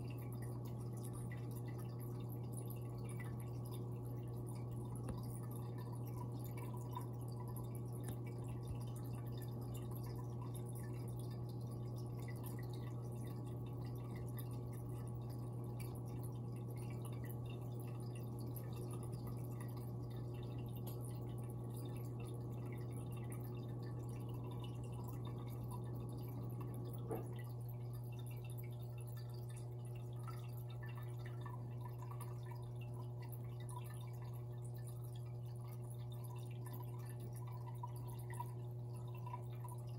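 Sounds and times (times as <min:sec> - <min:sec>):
aquarium pump humming: 0:00.0 - 0:39.9
water trickling and dripping: 0:00.0 - 0:39.9.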